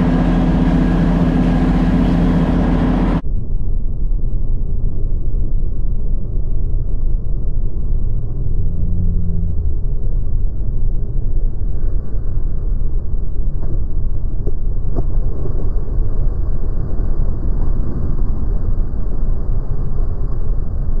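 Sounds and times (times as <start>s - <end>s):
motorboat engine rumble: 0.0s - 3.9s, 4.6s - 21.0s.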